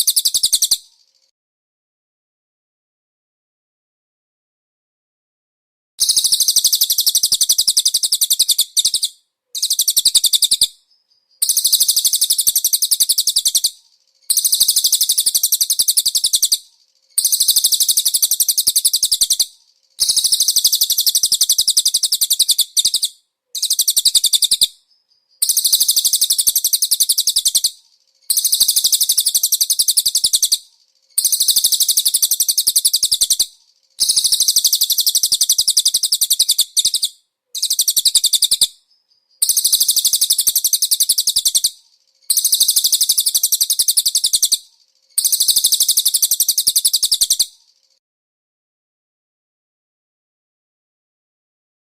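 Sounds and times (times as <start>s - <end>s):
songbird singing fast trills: 0.0s - 1.3s, 6.0s - 48.0s.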